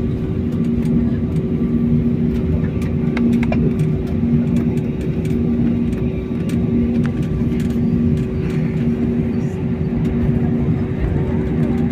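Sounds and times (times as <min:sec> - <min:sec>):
airliner cabin drone: 0:00.0 - 0:11.9.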